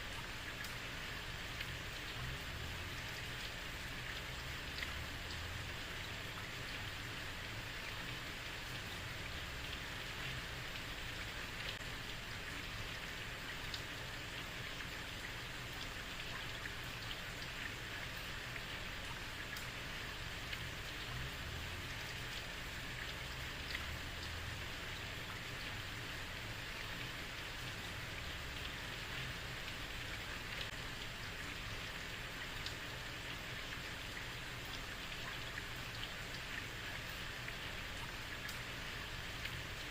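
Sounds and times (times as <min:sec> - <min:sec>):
heavy rain on a street: 0:00.0 - 0:39.9.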